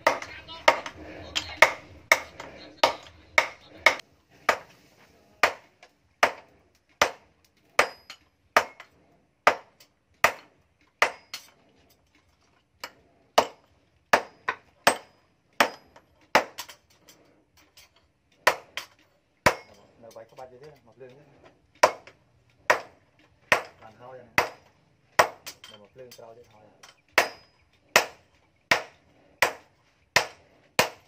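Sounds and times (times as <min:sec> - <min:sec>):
hammer striking hot steel: 0:00.0 - 0:04.8, 0:05.4 - 0:11.6, 0:12.8 - 0:20.7, 0:21.8 - 0:31.0.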